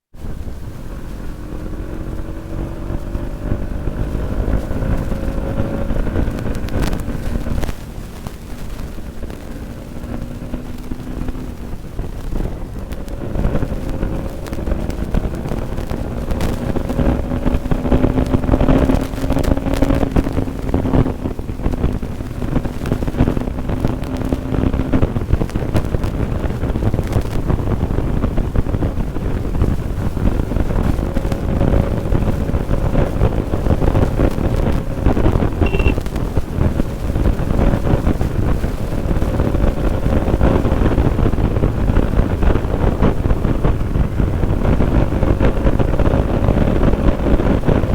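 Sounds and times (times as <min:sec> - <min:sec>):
wind buffeting microphone: 0:00.1 - 0:47.9
motorcycle engine at high revs: 0:00.2 - 0:47.9.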